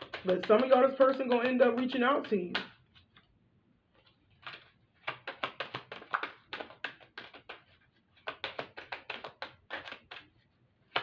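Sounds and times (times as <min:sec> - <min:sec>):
cards being shuffled: 0:00.0 - 0:03.3, 0:03.9 - 0:11.0.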